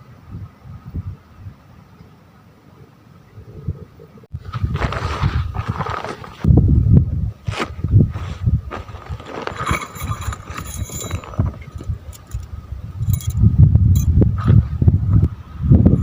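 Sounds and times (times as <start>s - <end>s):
wind gusting against microphone: 0.0s - 16.0s.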